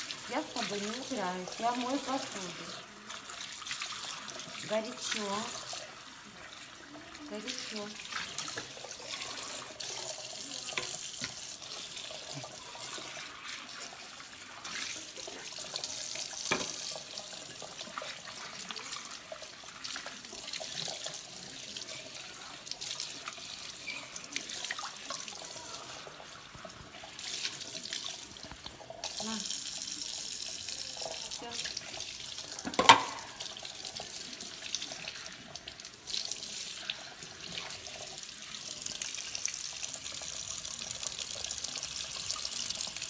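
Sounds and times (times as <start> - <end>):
kitchen tap running into sink: 0.0 - 43.0
steel bowls rinsed under water: 0.0 - 43.0.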